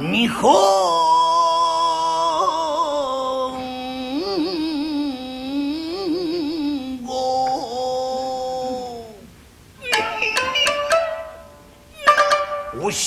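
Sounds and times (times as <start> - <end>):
man singing with trills: 0.0 - 13.0.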